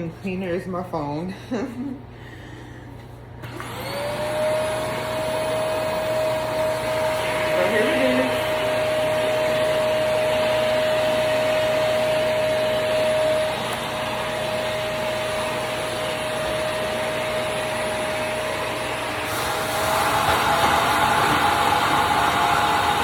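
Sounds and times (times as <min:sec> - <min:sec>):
wet dry vacuum sucking water: 0:03.4 - 0:23.0.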